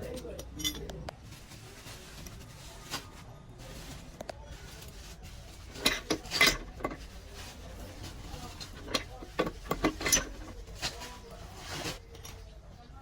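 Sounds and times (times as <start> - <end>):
hard objects clinking and scraping: 0.0 - 12.5.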